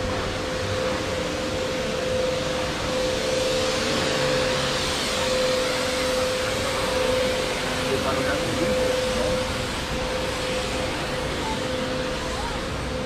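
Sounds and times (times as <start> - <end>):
steady machine hum: 0.0 - 13.0
street noise: 0.0 - 13.0.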